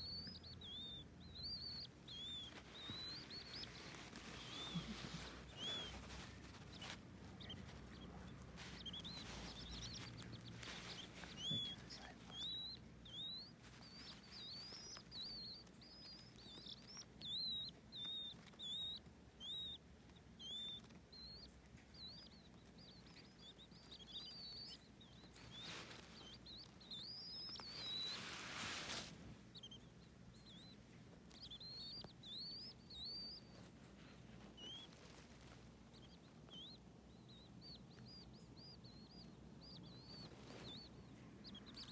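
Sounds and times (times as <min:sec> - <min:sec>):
baby birds peeping: 0:00.0 - 0:41.9
rustling: 0:00.0 - 0:41.9.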